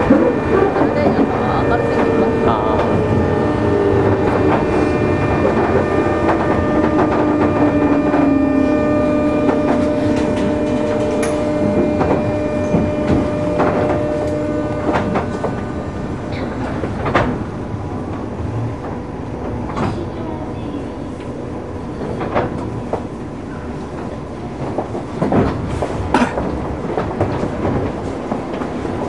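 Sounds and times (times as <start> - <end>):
train motor whine: 0.0 - 29.0.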